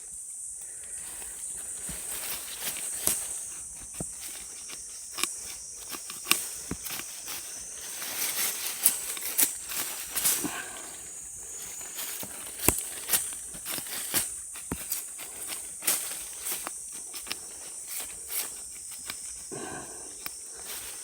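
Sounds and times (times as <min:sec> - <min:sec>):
high insect drone: 0:00.0 - 0:21.0
digging tool chopping stony soil: 0:01.7 - 0:20.4.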